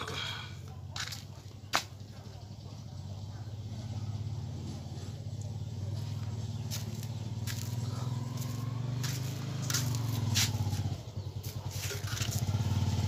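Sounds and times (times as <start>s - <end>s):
small engine running: 2.1s - 13.0s.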